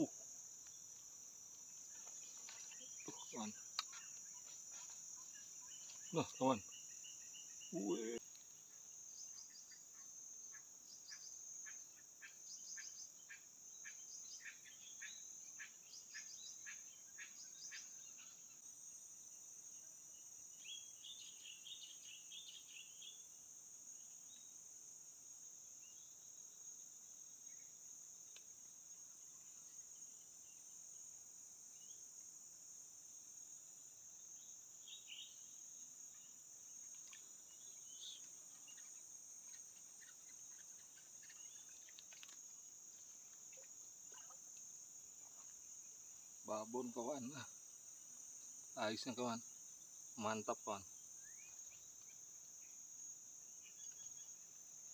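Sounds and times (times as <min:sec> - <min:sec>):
high-pitched insect chorus: 0:00.0 - 0:54.9
short insect chirps: 0:00.0 - 0:54.9.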